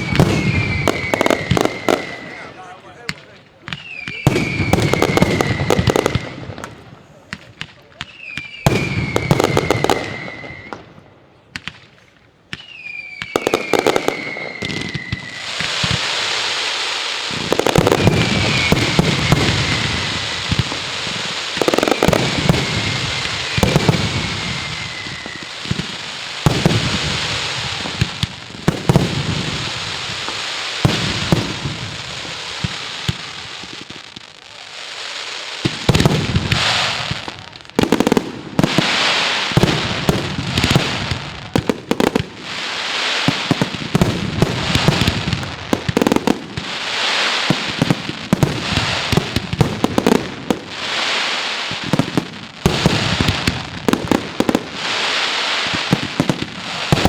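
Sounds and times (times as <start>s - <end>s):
falling firework whistles: 0.0s - 57.0s
fireworks bangs and bursts: 0.0s - 57.0s
fireworks crackling: 0.0s - 57.0s.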